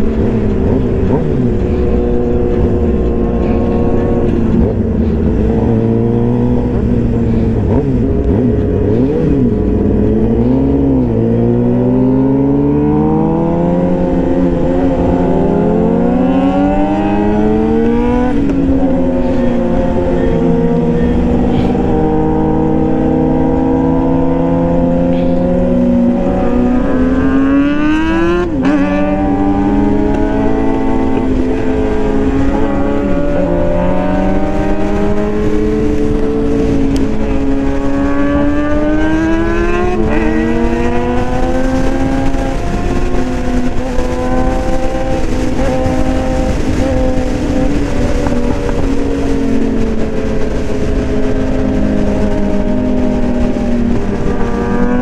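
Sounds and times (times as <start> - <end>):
motorcycle engine accelerating: 0.0 - 55.0
wind rushing: 0.0 - 55.0.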